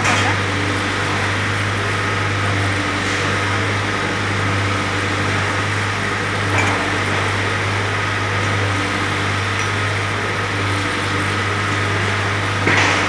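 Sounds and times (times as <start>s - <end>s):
fan noise: 0.0s - 13.0s
low machinery hum: 0.0s - 13.0s.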